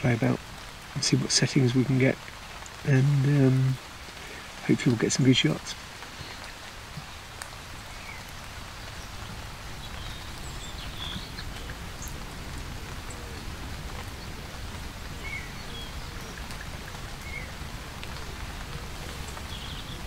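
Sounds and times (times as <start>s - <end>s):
rain on fabric: 0.0s - 20.0s.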